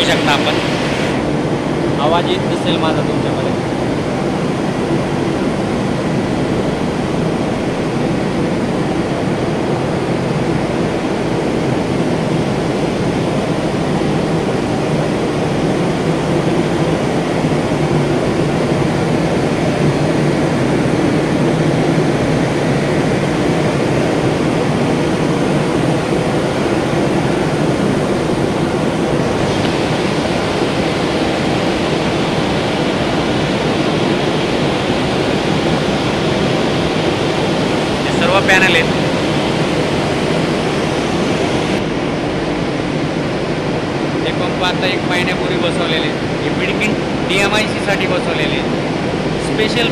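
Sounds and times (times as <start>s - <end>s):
electric water pumps droning: 0.0s - 49.9s.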